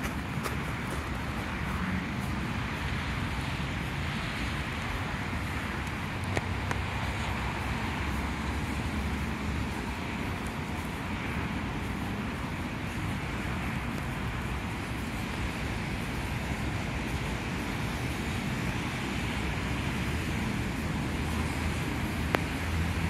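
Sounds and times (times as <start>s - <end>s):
traffic hiss on wet streets: 0.0s - 23.0s.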